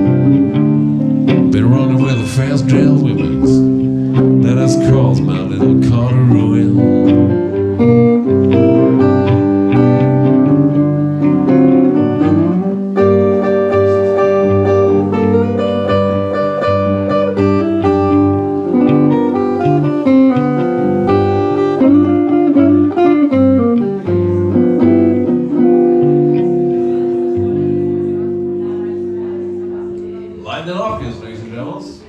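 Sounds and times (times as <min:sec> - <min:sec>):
blues guitar playing: 0:00.0 - 0:32.0.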